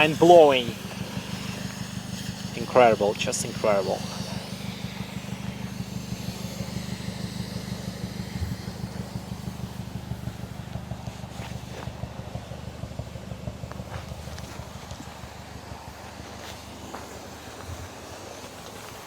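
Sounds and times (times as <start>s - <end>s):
car exhaust idling: 0.0s - 19.0s.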